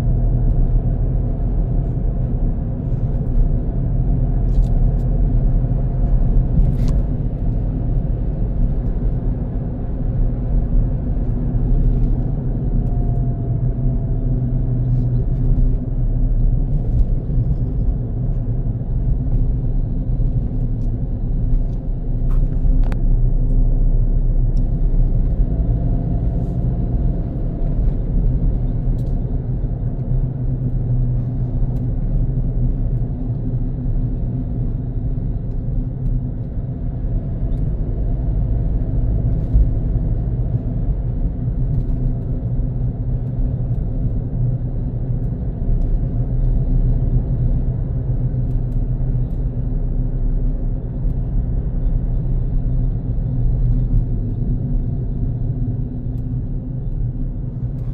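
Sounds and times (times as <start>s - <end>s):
car engine and road noise: 0.0s - 57.9s.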